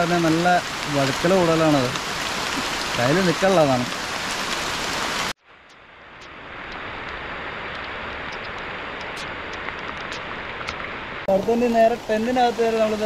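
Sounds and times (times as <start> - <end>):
water drips: 0.0 - 11.3
rain falling on foliage: 0.0 - 13.0.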